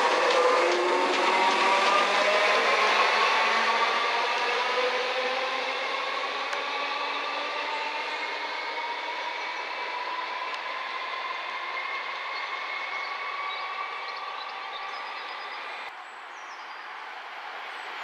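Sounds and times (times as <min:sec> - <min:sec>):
whining tones sliding down: 0:00.0 - 0:15.9
passenger train running past: 0:00.0 - 0:16.0.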